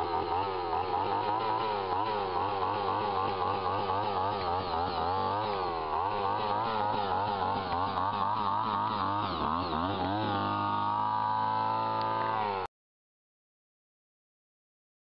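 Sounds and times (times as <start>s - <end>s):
gas engine drill boring into soil: 0.0s - 12.7s.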